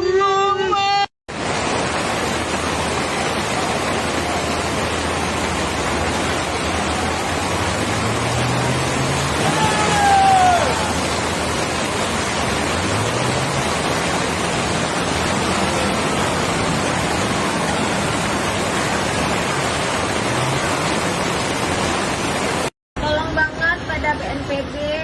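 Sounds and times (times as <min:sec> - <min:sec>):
floodwater rushing: 0:01.3 - 0:23.2.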